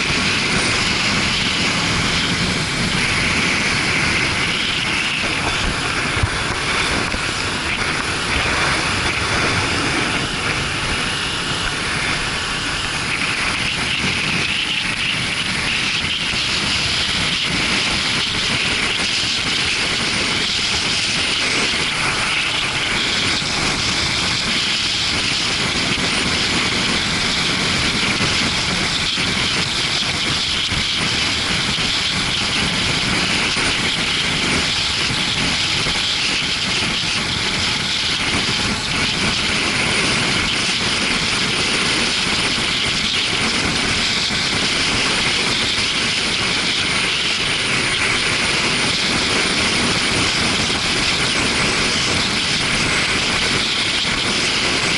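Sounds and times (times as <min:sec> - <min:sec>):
motorcycle engine: 0:00.0 - 0:54.9
wind rush: 0:00.0 - 0:54.9.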